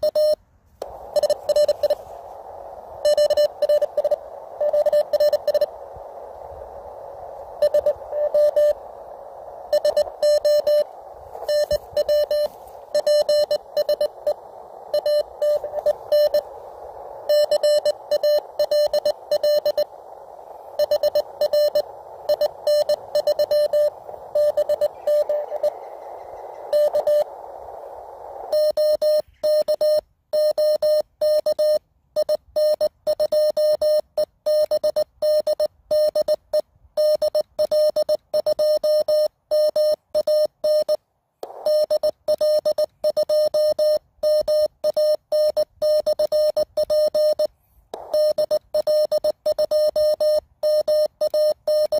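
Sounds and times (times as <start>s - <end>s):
radio band noise hiss: 0.0s - 31.8s, 41.4s - 51.9s
morse code tones: 0.0s - 51.9s.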